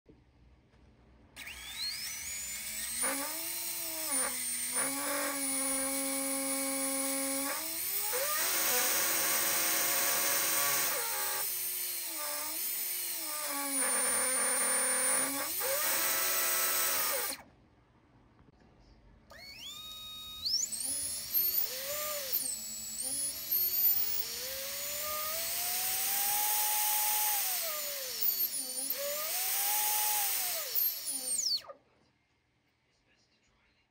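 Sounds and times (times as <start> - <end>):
brushless motors whining: 1.4 - 17.4, 19.3 - 31.6.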